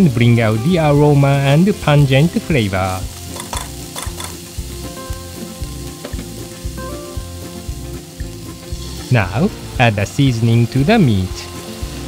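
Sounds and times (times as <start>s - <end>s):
meat sizzling in a frying pan: 0.2s - 12.0s.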